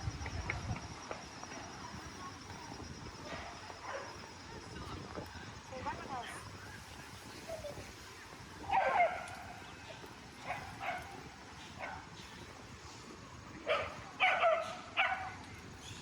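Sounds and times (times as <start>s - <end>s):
street hum: 0.0s - 16.0s.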